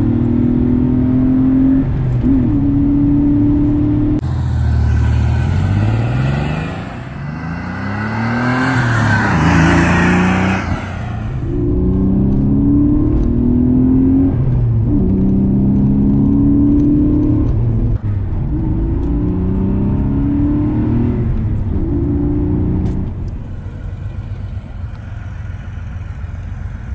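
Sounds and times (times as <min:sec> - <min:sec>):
car engine accelerating through gears: 0:00.0 - 0:26.9.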